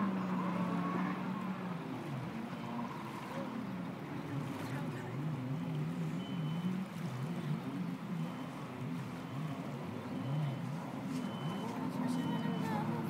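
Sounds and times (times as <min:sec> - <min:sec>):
distant jet ski engine: 0:00.0 - 0:13.0.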